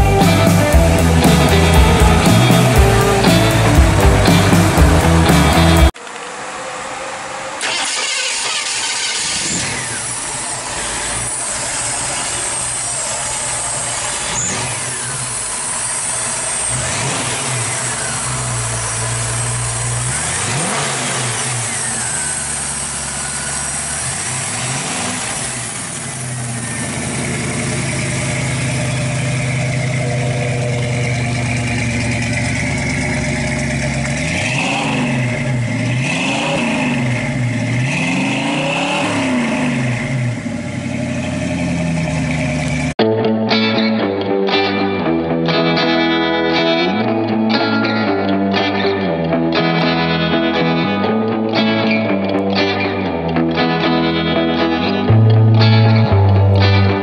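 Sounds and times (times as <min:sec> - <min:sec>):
car engine starting: 0:00.0 - 0:43.0, 0:44.6 - 0:57.0
engine idling and revving: 0:00.0 - 0:43.0, 0:45.8 - 0:57.0.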